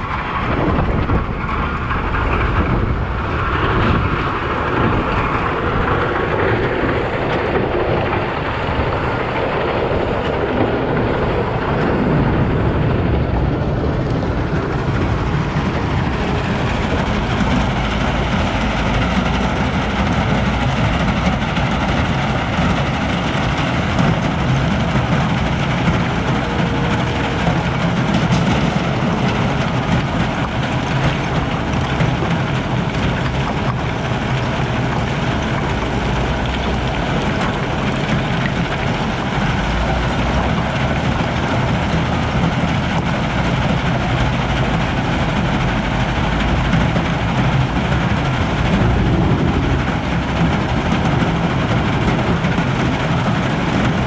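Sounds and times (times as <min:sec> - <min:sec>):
wheel loader diesel engine: 0:00.0 - 0:54.0.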